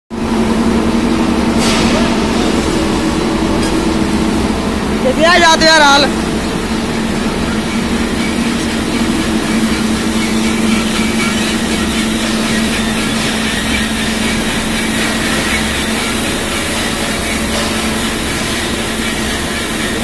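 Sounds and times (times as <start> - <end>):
machine din with low hum: 0.1 - 20.0.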